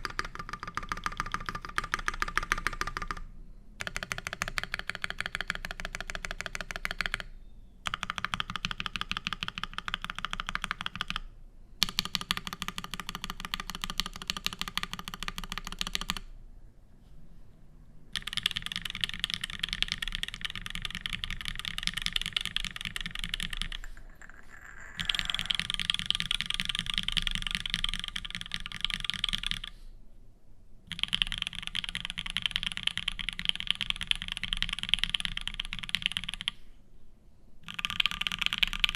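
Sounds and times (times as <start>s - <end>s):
fast mechanical keyboard typing: 0.0s - 16.3s, 18.1s - 24.0s, 24.8s - 29.7s, 30.9s - 36.6s, 37.6s - 38.9s.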